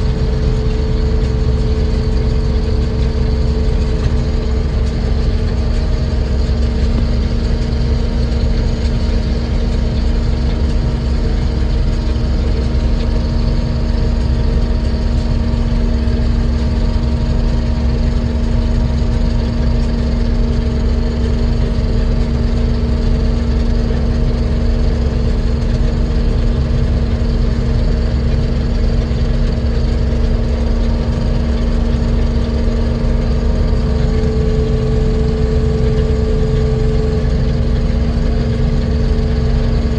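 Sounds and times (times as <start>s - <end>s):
combine harvester engine drone: 0.0s - 39.9s
steady hum: 0.0s - 39.9s.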